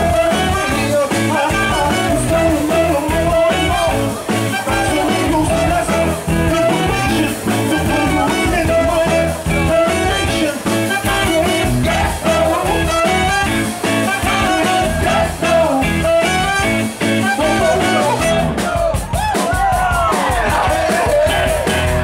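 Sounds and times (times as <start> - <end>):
person singing into microphone: 0.0 - 19.0
saxophone: 0.0 - 19.3
drums: 0.0 - 22.0
electric bass: 0.0 - 22.0.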